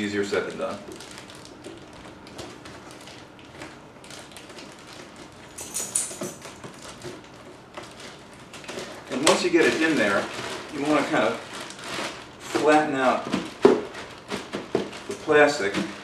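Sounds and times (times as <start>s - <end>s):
plastic liner crinkling: 0.0s - 5.6s, 6.3s - 16.0s.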